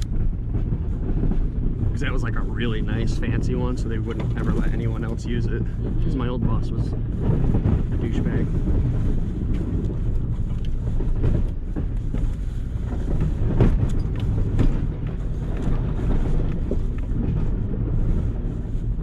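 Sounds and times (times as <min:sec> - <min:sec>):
plow knocking on gravel: 0:00.0 - 0:19.0
truck engine rumble: 0:00.0 - 0:19.0.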